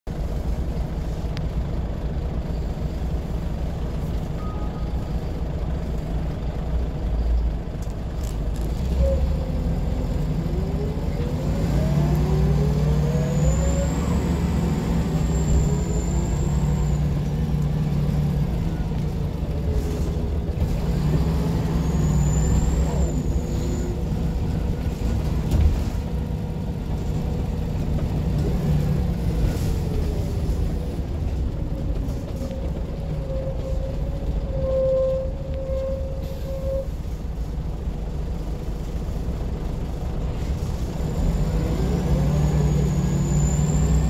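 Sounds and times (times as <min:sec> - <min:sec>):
bus engine drone: 0:00.1 - 0:44.0.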